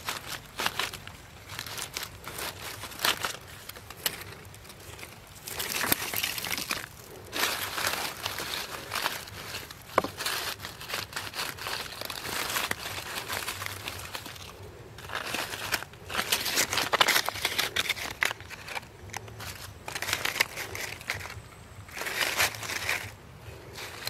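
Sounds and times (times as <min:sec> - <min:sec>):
dry leaves crackling and rustling: 0:00.0 - 0:24.0.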